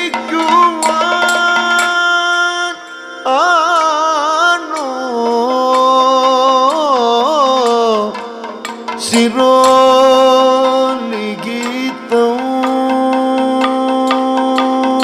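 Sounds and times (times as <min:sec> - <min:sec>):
man singing ornamented melody: 0:00.0 - 0:15.0.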